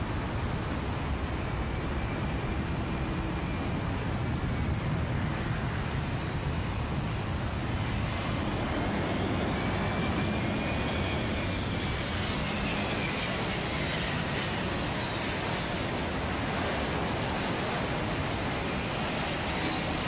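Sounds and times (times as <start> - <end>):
faint high jet whine: 0.0 - 20.0
jet engines roaring: 0.0 - 20.0.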